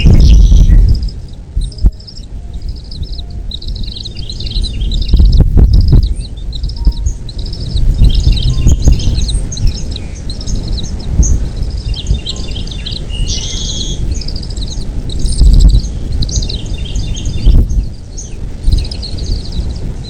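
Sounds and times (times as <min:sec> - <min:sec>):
birds chirping: 0:00.0 - 0:20.0
loud low rumble: 0:00.0 - 0:20.0.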